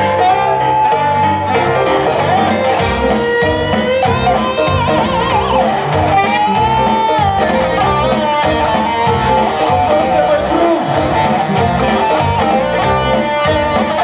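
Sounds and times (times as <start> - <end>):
electric guitar: 0.0 - 14.0.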